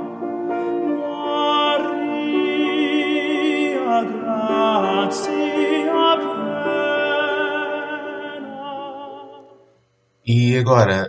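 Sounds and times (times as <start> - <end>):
slow melody of held notes: 0.0 - 9.8.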